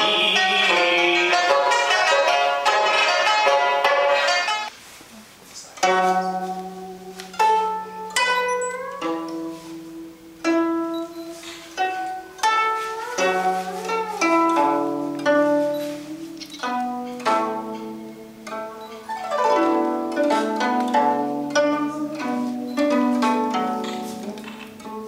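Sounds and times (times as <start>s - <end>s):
plucked zither melody: 0.0s - 4.7s, 5.8s - 25.0s.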